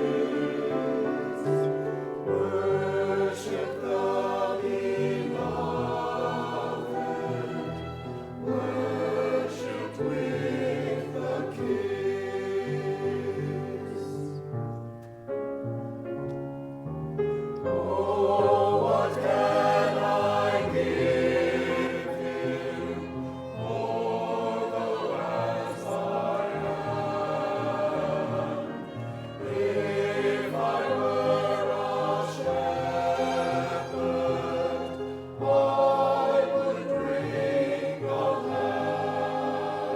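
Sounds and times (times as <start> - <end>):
choir singing: 0.0 - 14.6, 17.5 - 39.9.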